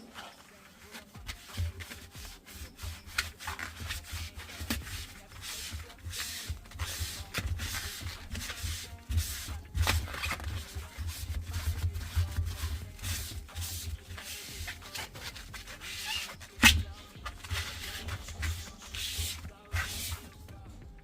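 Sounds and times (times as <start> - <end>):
sponge rubbing rubber seal: 0.0 - 20.7.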